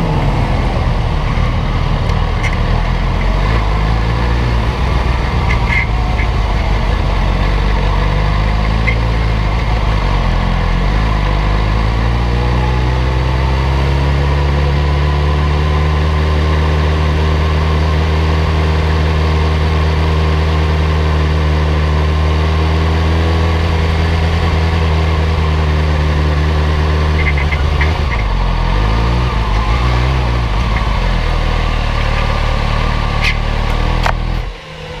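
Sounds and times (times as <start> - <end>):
motorcycle engine at low revs: 0.0 - 35.0.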